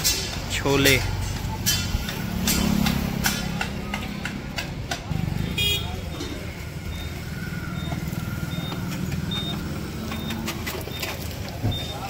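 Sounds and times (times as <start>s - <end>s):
vehicle engine running: 0.2s - 12.0s.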